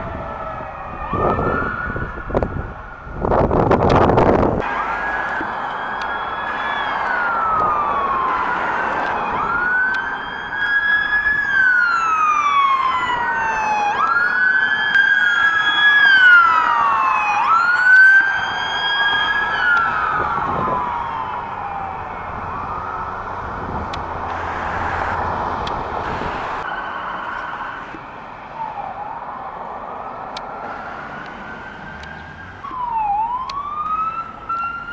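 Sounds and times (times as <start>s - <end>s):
police siren wailing: 0.0s - 34.9s.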